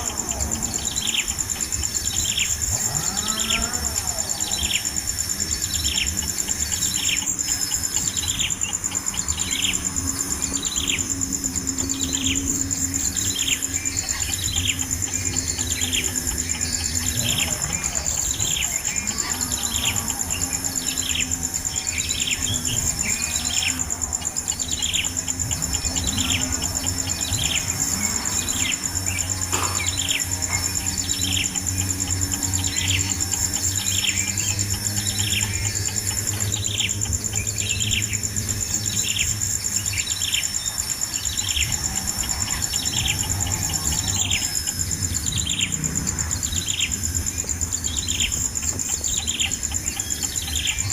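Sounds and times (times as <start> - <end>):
bird chirping: 0.0 - 50.9
high-pitched insect drone: 0.0 - 50.9.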